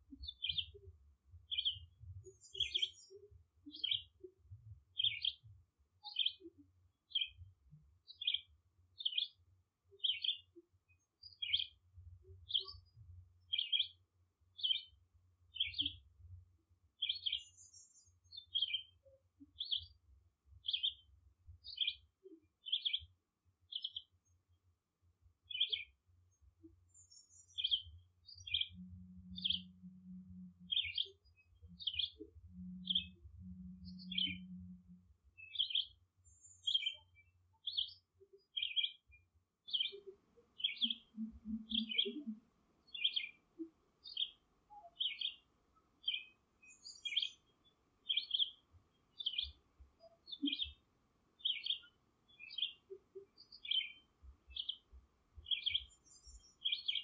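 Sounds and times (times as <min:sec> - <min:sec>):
bird chirping: 0:00.0 - 0:16.0, 0:17.0 - 0:20.0, 0:20.6 - 0:23.1, 0:23.7 - 0:24.4, 0:25.5 - 0:26.0, 0:26.6 - 0:50.8, 0:51.4 - 0:57.0.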